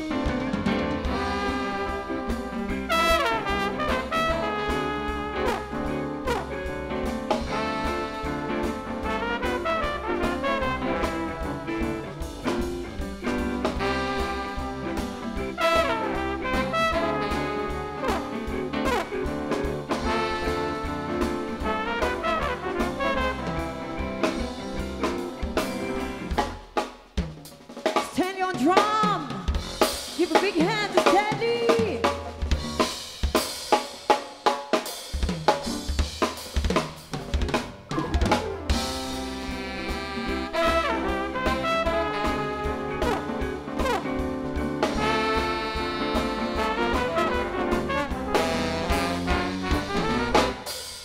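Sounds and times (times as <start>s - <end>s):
drum kit solo: 0.0s - 51.0s
jazz band with horns: 0.0s - 51.0s.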